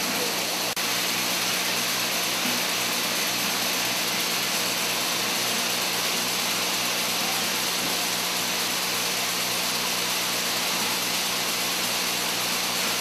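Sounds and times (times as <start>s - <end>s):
machine whirring and hissing: 0.0s - 13.0s.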